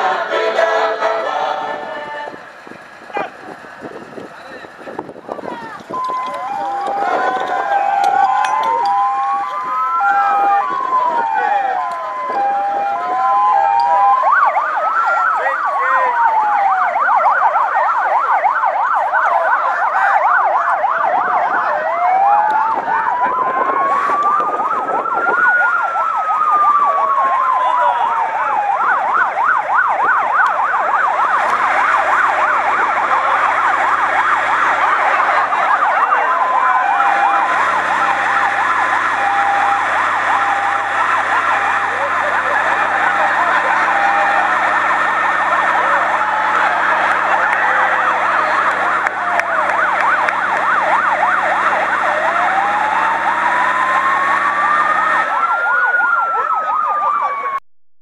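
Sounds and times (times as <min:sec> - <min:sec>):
electronic sirens yelping and wailing: 0:00.0 - 0:57.6
two-tone hi-lo siren: 0:03.6 - 0:57.6.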